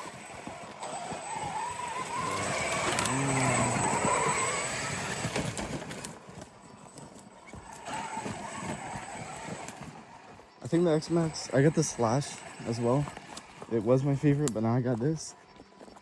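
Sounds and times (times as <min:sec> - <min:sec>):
electric motor whining: 0:00.0 - 0:16.0
tyres and drivetrain rattling: 0:00.0 - 0:16.0.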